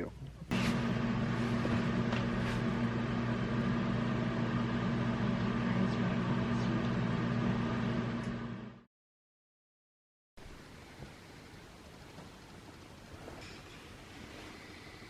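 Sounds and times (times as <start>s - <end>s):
low mechanical hum: 0.0s - 8.9s, 10.4s - 15.0s.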